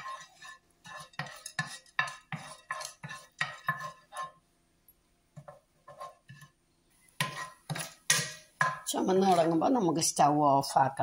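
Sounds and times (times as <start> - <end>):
spatula scraping frying pan: 0.0 - 4.4, 5.4 - 9.9.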